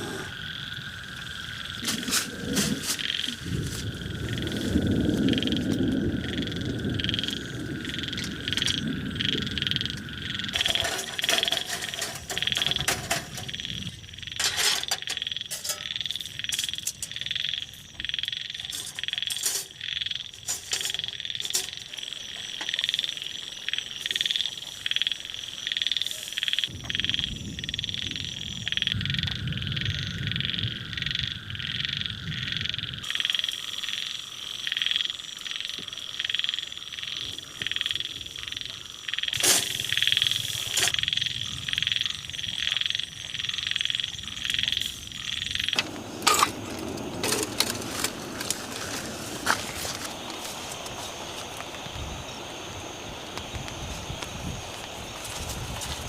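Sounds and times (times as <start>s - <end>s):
frogs calling: 0.0s - 56.0s.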